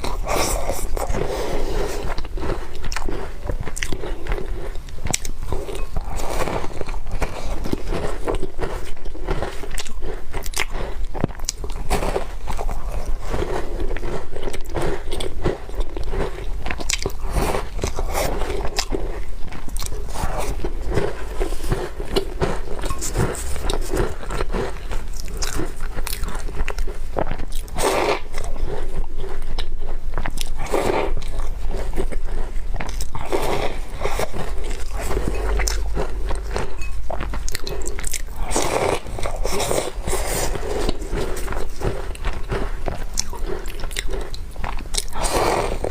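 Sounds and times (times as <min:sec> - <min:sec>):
chewing crunchy cookies: 0:00.0 - 0:45.9.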